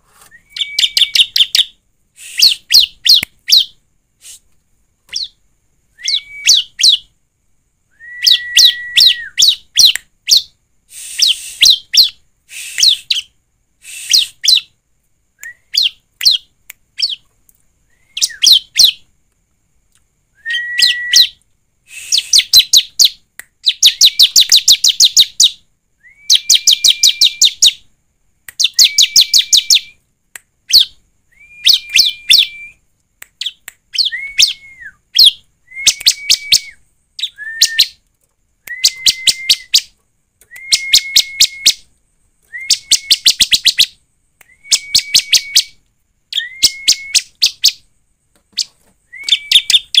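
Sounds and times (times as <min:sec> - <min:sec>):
bird chipping and whistling: 0:00.2 - 0:04.4, 0:05.1 - 0:05.4, 0:06.0 - 0:07.1, 0:08.0 - 0:14.7, 0:15.4 - 0:17.2, 0:17.9 - 0:19.0, 0:20.4 - 0:27.8, 0:28.6 - 0:30.0, 0:30.7 - 0:32.8, 0:33.4 - 0:38.0, 0:38.7 - 0:47.8, 0:48.6 - 0:50.0.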